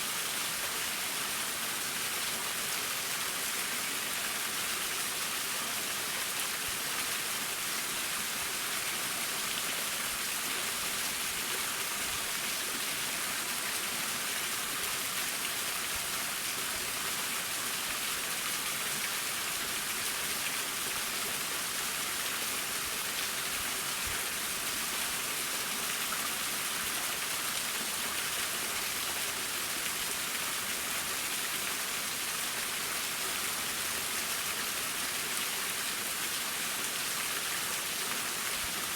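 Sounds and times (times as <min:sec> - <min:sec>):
waterfall hiss: 0:00.0 - 0:38.9.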